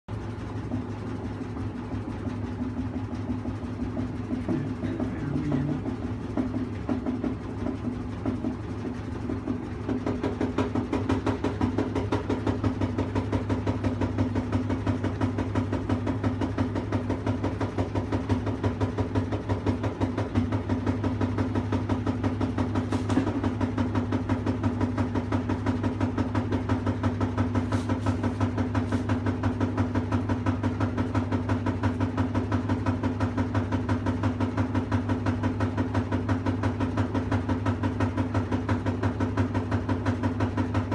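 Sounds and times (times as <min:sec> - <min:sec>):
washing machine humming: 0:00.1 - 0:40.9.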